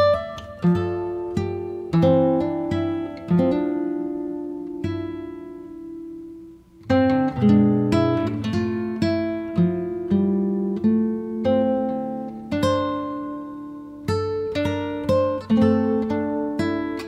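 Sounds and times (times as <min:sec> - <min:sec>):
acoustic guitar plucked notes: 0:00.0 - 0:17.0.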